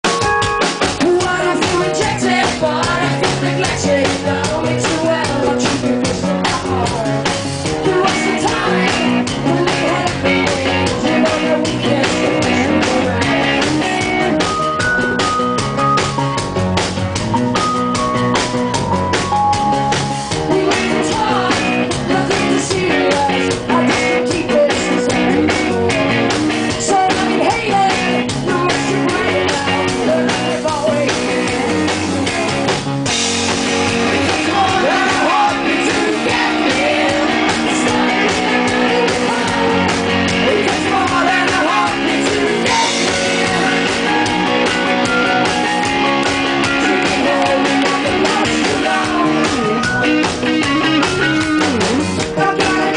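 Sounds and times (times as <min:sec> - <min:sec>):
drum kit beat: 0:00.0 - 0:52.9
rock music: 0:00.0 - 0:52.9
person singing: 0:01.0 - 0:14.7, 0:20.3 - 0:32.8, 0:34.2 - 0:44.9, 0:46.6 - 0:52.9.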